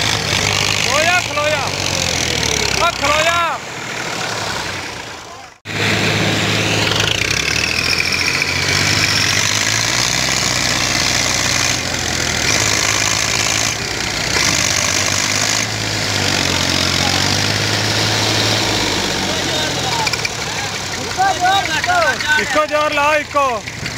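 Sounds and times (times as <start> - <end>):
tractor diesel engine under load: 0.0 - 23.9.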